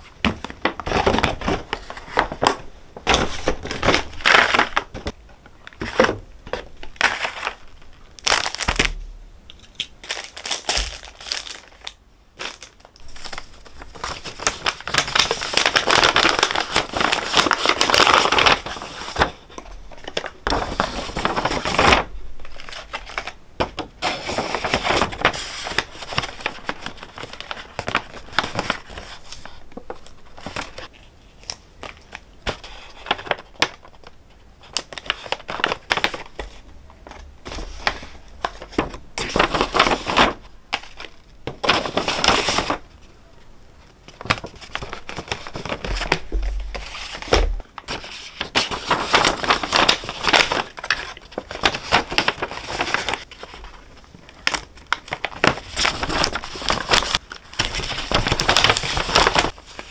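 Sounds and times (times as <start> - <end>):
paper bags rustling: 0.0 - 9.0, 10.0 - 43.0, 44.0 - 59.9.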